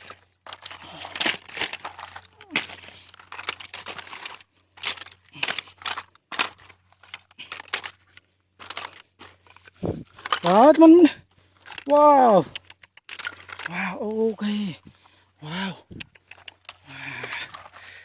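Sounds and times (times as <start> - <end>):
crinkling and rustling: 0.0 - 15.2, 16.0 - 18.0.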